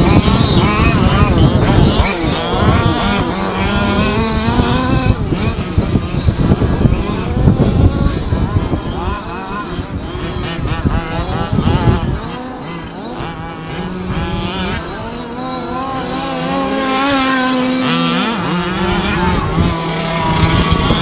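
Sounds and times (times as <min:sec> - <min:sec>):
small two-stroke engines revving: 0:00.0 - 0:21.0.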